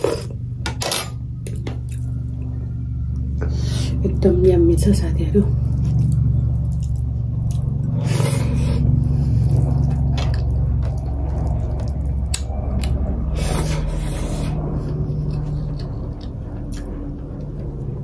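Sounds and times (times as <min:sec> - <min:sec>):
steady low hum: 0:00.0 - 0:18.0
chewing and wet mouth sounds: 0:01.4 - 0:03.4, 0:05.5 - 0:18.0.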